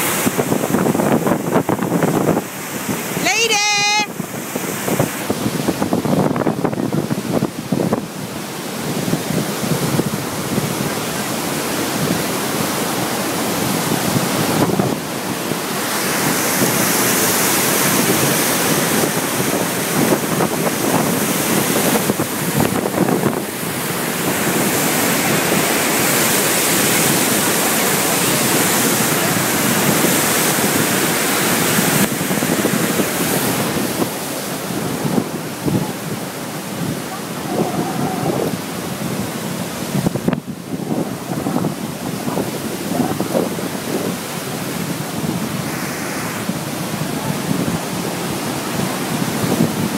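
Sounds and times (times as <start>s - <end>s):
water rushing roar: 0.0s - 49.9s
wind buffeting microphone: 0.0s - 49.9s.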